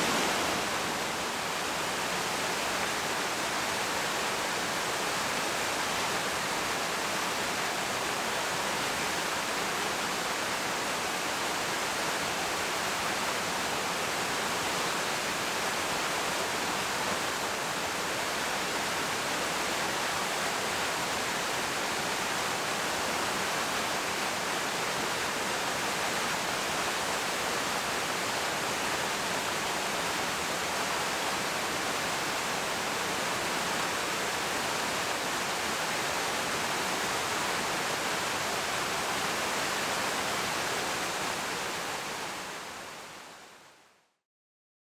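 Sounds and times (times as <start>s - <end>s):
waterfall rushing: 0.0s - 43.2s.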